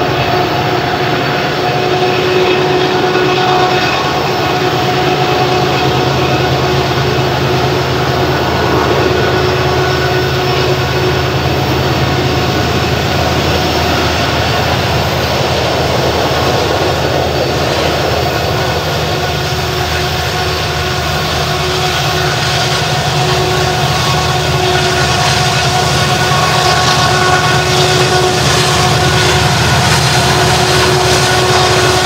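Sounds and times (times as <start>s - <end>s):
diesel locomotive engine: 0.0s - 32.0s
rolling train noise: 0.0s - 32.0s.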